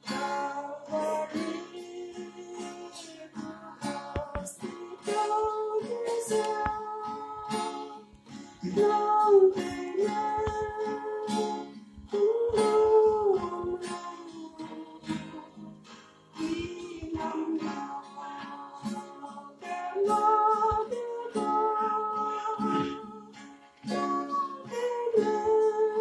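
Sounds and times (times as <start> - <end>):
person singing: 0.0 - 26.0
strummed acoustic guitar: 0.0 - 26.0.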